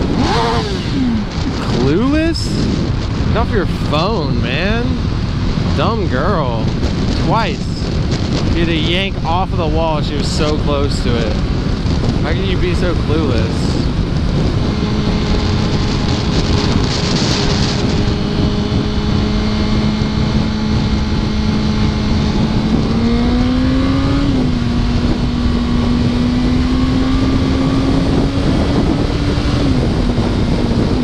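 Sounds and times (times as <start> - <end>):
motorcycle engine running: 0.0 - 31.0
wind noise on microphone: 0.0 - 31.0.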